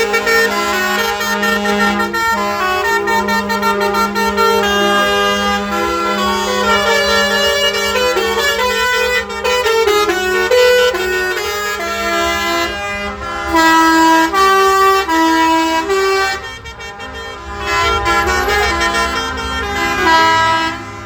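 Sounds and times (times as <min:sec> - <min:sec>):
reedy wind instrument melody: 0:00.0 - 0:21.0.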